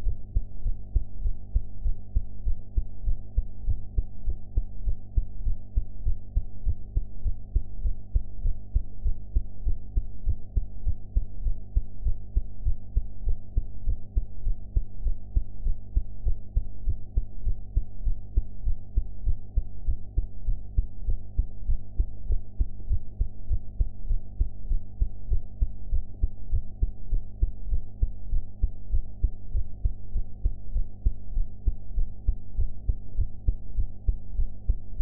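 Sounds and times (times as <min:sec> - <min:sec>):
heartbeat thuds: 0:00.0 - 0:27.8, 0:28.6 - 0:35.0
faint steady hum: 0:00.0 - 0:35.0.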